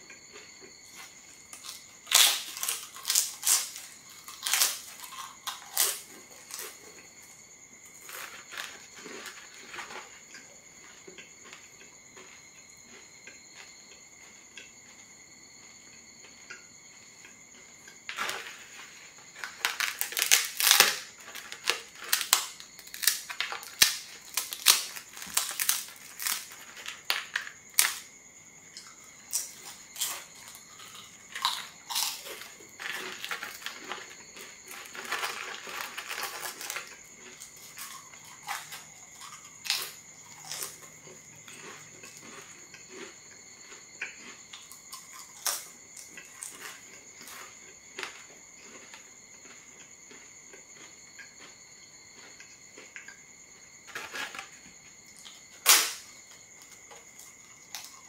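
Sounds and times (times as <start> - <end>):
flatbread cracking and crunching: 0.3 - 15.0, 17.5 - 28.1, 28.8 - 51.6, 52.2 - 53.2, 53.8 - 58.0.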